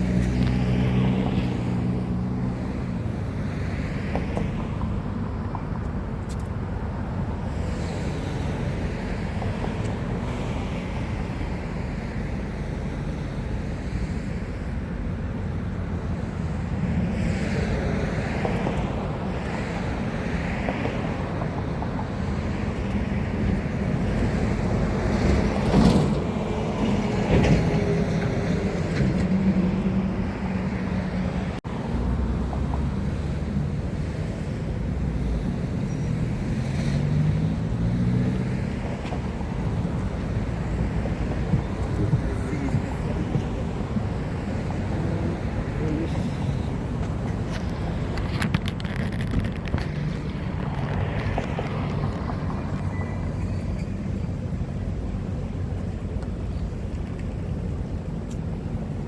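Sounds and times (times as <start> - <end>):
engine rumble: 0.0 - 59.0
vehicles passing by: 0.0 - 59.0.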